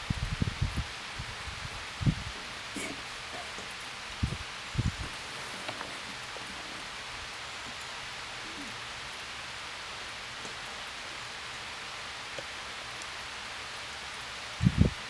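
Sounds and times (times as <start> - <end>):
light rain on grass and leaves: 0.0 - 15.0.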